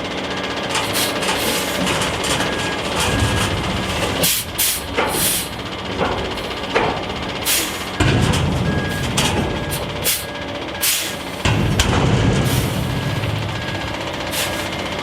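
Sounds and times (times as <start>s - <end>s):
heavy truck running: 0.0s - 15.0s
reversing alarm beeping: 0.2s - 15.0s.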